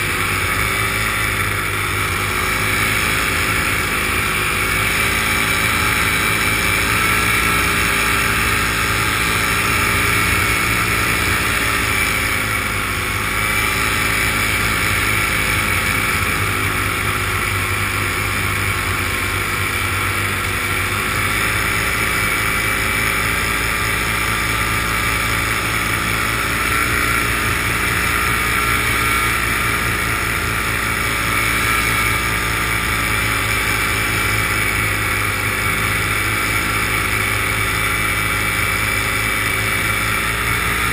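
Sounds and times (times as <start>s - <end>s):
aircraft propeller drone: 0.0s - 40.9s.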